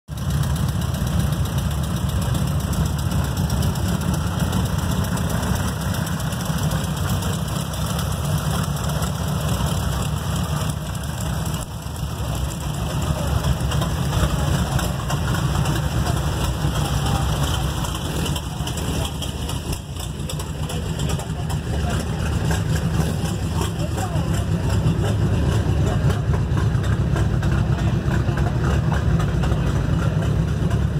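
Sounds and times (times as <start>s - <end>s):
race car engine idling: 0.1s - 30.9s.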